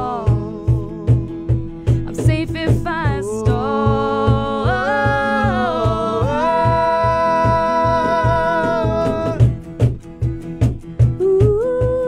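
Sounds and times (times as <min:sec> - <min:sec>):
woman singing: 0:00.0 - 0:09.5, 0:11.2 - 0:12.0
electric guitar: 0:00.0 - 0:12.0
strummed acoustic guitar: 0:00.0 - 0:12.0.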